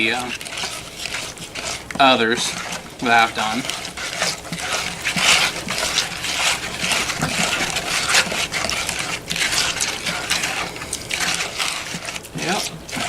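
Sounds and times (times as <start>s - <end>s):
hand squelching wet slime: 0.0s - 13.0s.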